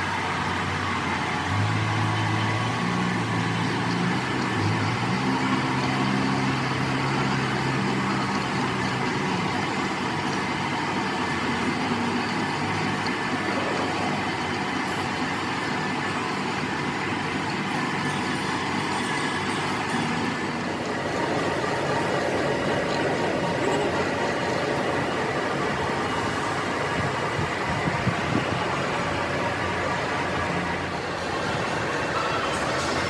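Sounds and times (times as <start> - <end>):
deeper engine hum: 0.0 - 33.0
engine running: 0.0 - 33.0
steady machine noise: 0.0 - 33.0.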